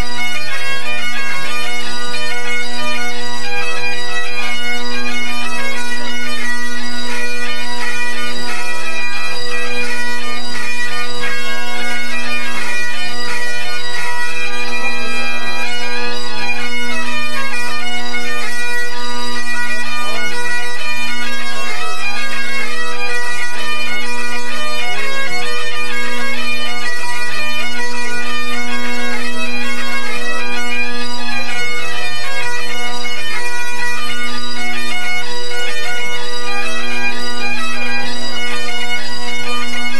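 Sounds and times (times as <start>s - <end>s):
bagpipes playing: 0.0s - 39.9s.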